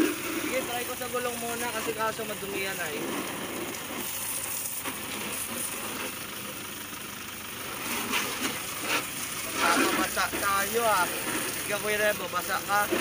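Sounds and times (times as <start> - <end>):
pressure washer spraying water: 0.0 - 13.0
washer motor running: 0.0 - 13.0.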